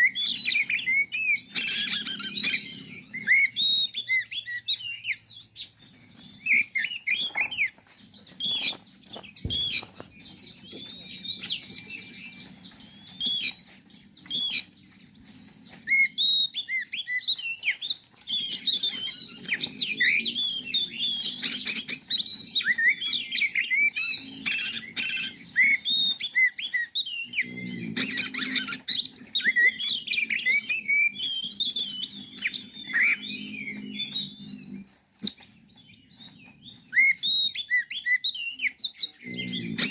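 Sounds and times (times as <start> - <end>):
bird song with whistles and trills: 0.0 - 39.9.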